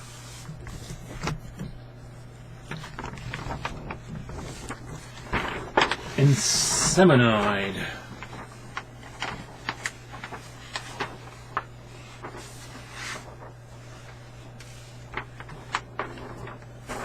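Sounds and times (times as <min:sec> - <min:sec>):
low electrical hum: 0:00.0 - 0:17.0
paper rustling and crackling: 0:00.0 - 0:17.0.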